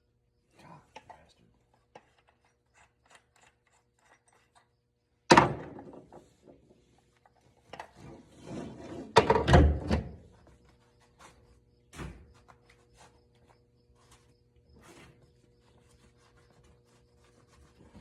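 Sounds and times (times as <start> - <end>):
scraping and handling noises: 0.6 - 4.8, 5.8 - 18.0.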